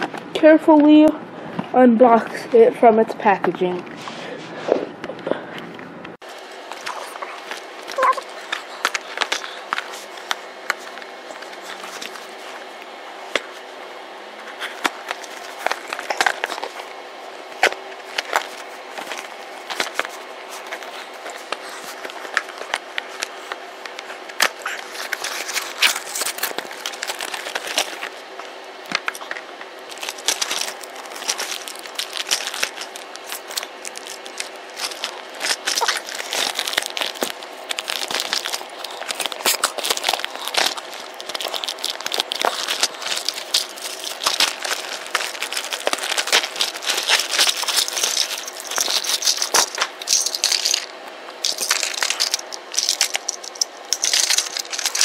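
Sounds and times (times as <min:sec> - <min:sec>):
plastic bag crinkling: 0:06.2 - 0:13.6, 0:14.5 - 0:55.0
cardboard packaging being handled: 0:06.3 - 0:13.6, 0:14.4 - 0:55.0.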